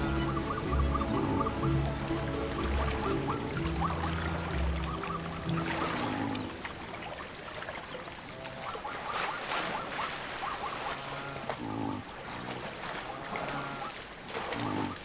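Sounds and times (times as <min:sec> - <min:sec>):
herd animals calling: 0:00.0 - 0:06.7, 0:08.3 - 0:15.0
rushing water: 0:00.0 - 0:15.0.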